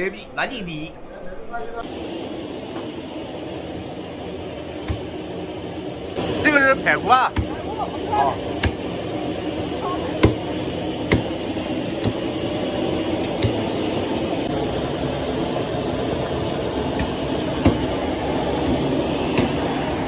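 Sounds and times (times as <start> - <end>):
busy kitchen noise: 0.0 - 20.0.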